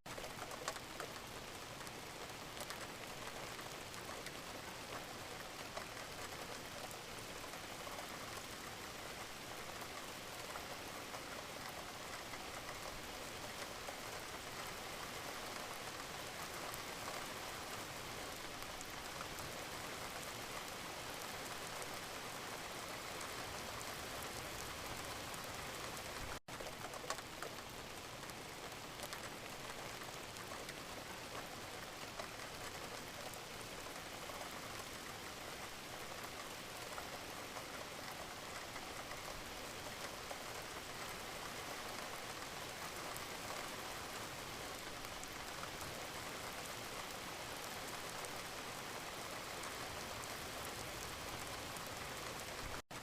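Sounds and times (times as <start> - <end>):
gentle rain falling: 0.0 - 53.0.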